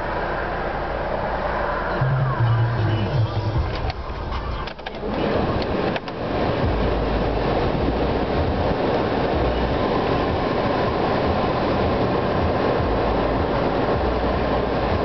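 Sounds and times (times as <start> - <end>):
car cabin rushing and rumbling: 0.0 - 15.0.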